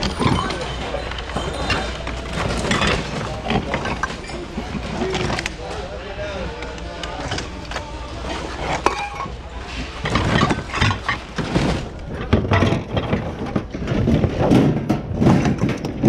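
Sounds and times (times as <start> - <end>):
objects clattering and knocking: 0.0 - 6.0, 6.6 - 16.0.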